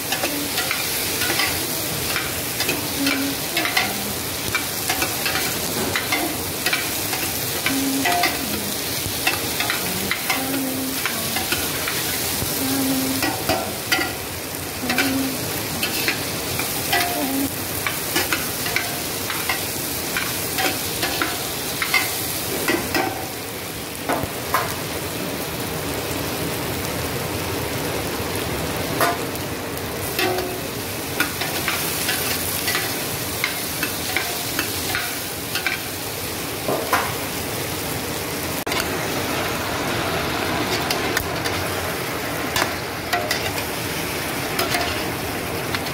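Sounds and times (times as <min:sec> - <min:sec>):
vegetables sizzling in a pot: 0:00.0 - 0:45.9.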